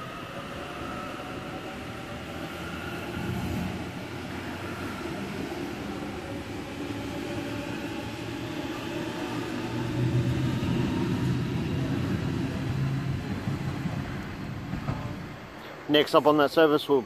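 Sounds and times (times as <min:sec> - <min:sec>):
electric train rumbling: 0:00.0 - 0:16.3.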